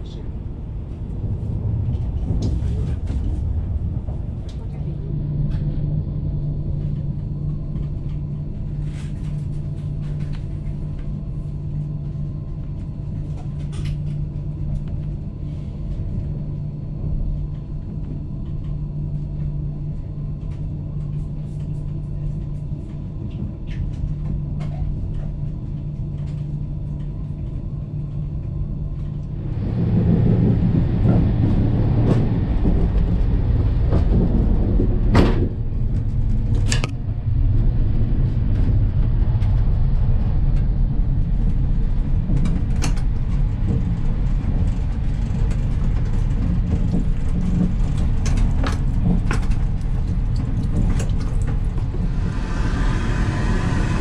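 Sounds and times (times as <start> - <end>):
rushing train rumble: 0.0 - 20.7, 27.1 - 54.0
train rumble and hum: 0.0 - 54.0.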